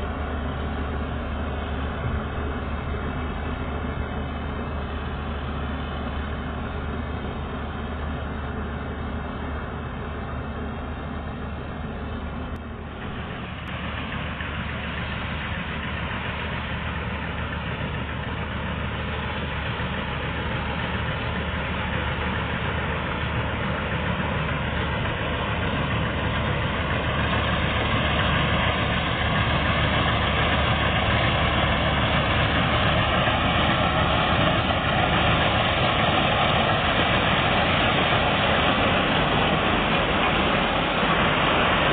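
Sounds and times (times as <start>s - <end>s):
combine harvester running: 0.0s - 41.9s.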